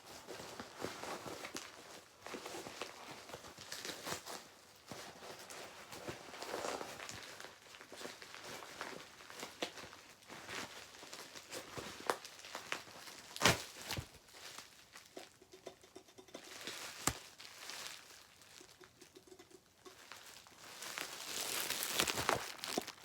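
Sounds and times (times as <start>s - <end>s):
packaging rustling and scraping: 0.0s - 23.0s.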